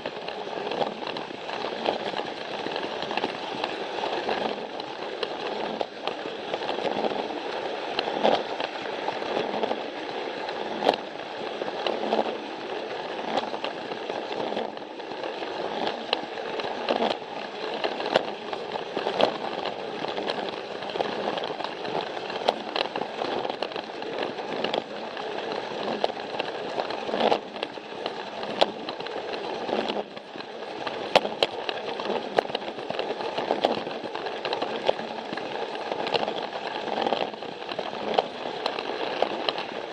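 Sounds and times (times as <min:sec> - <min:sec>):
toy train motor whirring: 0:00.0 - 0:39.9
wheels clicking on plastic track: 0:00.0 - 0:39.9.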